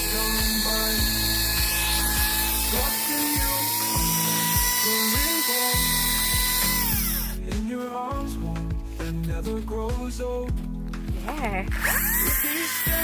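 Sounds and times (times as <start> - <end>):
music with steady beat and synth: 0.0 - 13.0.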